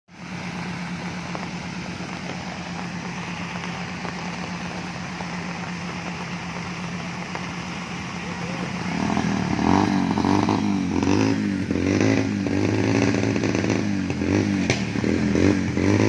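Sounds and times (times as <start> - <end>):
rushing floodwater: 0.1 - 16.0
vehicle engine running: 0.1 - 16.0.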